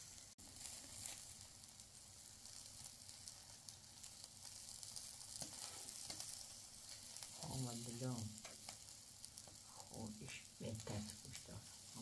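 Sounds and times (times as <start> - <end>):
sizzling hiss with crackling: 0.0 - 12.0.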